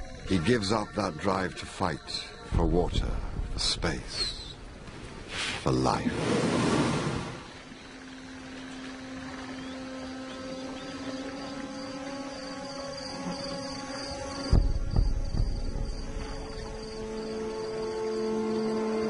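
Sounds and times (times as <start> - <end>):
low musical drone: 0.0 - 4.5, 7.6 - 19.0
crickets chirping: 0.0 - 19.0.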